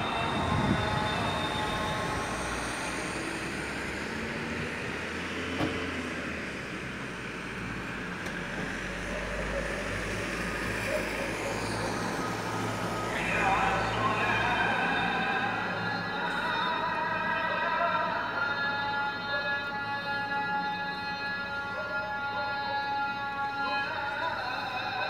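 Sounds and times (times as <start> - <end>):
call to prayer singing: 0.0 - 6.5, 7.8 - 25.0
distant traffic rumble: 0.0 - 23.6.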